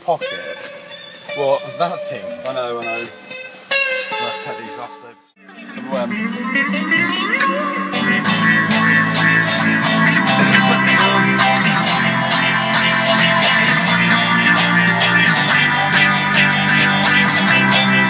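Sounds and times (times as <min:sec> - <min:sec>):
electric guitar strumming: 0:00.0 - 0:18.0.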